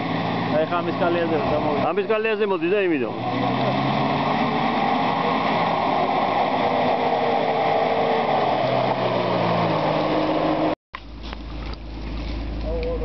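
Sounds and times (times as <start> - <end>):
vehicle engine running at low revs: 0.0 - 13.0.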